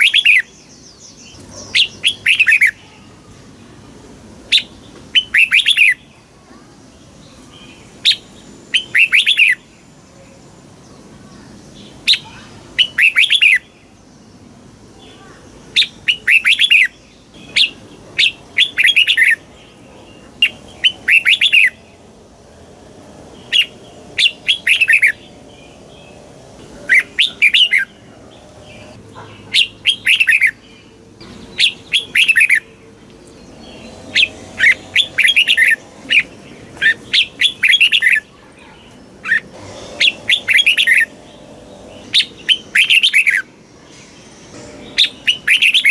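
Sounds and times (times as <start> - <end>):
bird singing: 0.0 - 3.4, 4.5 - 45.9.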